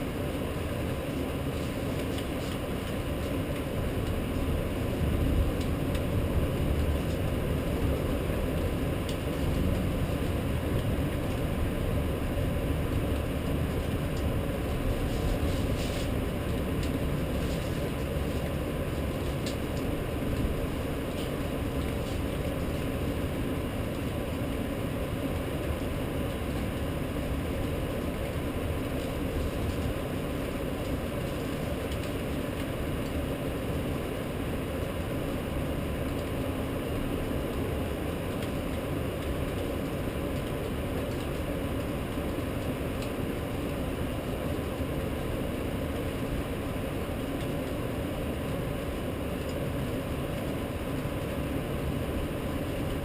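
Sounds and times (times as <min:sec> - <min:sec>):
faint steady hum: 0:00.0 - 0:53.0
rainstorm rumble and hiss: 0:00.0 - 0:53.0.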